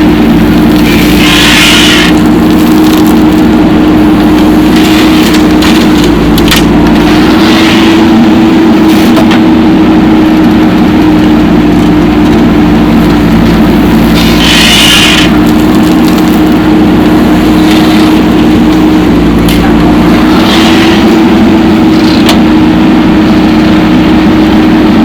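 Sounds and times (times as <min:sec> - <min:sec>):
diesel engine running steadily: 0:00.0 - 0:25.0.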